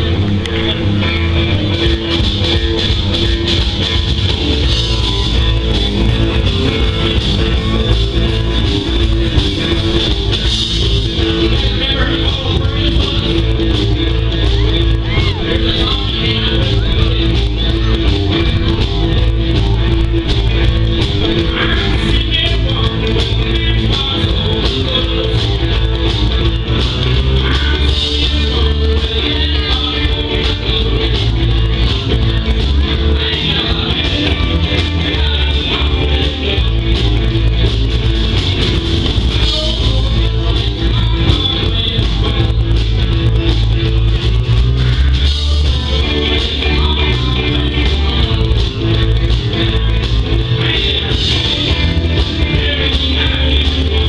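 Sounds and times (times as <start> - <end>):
electric guitar: 0.0 - 54.0
live rock band: 0.0 - 54.0.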